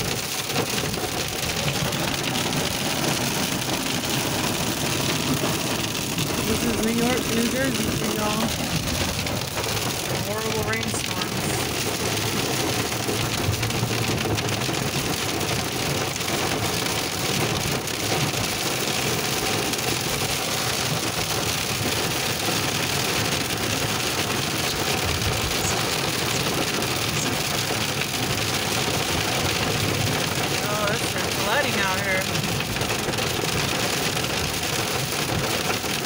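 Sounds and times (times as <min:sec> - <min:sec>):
car road noise: 0:00.0 - 0:36.0
heavy rain on a car: 0:00.0 - 0:36.0.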